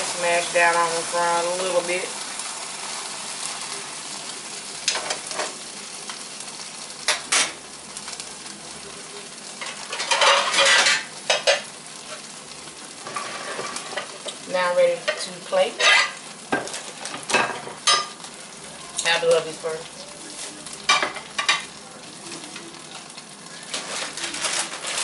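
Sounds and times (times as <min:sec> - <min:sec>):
buns sizzling in butter: 0:00.0 - 0:25.0.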